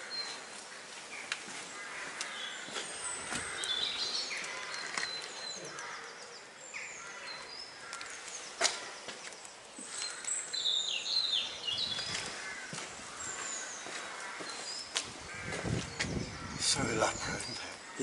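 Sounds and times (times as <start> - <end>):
birds chirping: 0.0 - 18.0
outdoor air noise: 0.0 - 18.0.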